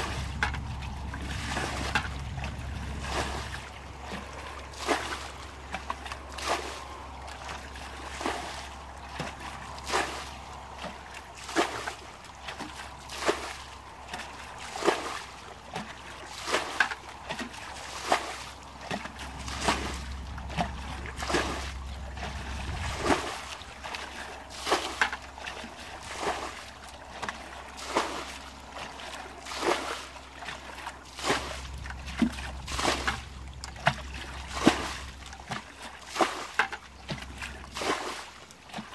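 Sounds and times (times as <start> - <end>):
bucket splashing water: 0.0 - 38.9.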